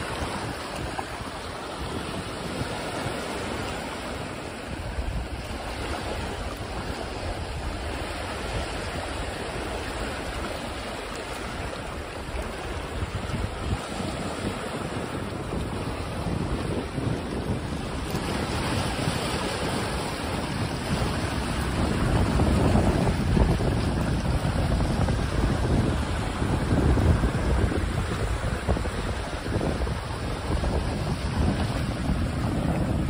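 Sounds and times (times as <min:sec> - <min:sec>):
small waves lapping: 0:00.0 - 0:33.0
wind buffeting microphone: 0:00.0 - 0:33.0.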